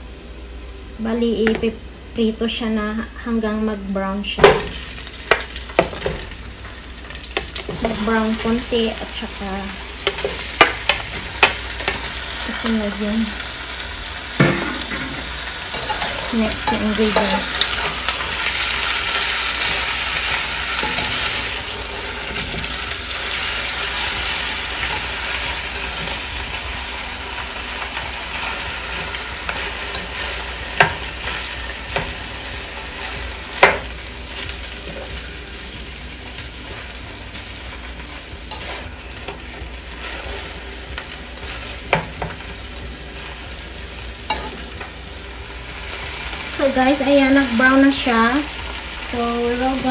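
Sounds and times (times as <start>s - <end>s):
chicken sizzling in oil: 0.0s - 49.9s.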